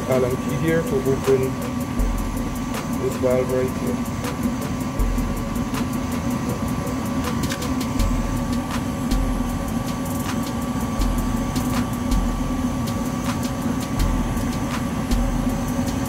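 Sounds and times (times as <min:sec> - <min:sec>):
gas furnace motor hum: 0:00.0 - 0:16.0.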